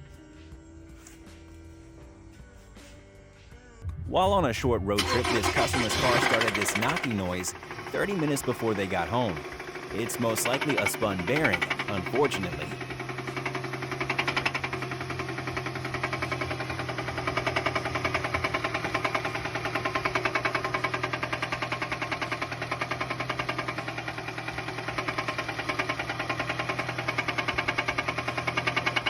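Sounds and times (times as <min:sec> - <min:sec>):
car engine running: 0:03.8 - 0:29.0
rapid knocking inside engine: 0:05.0 - 0:29.0.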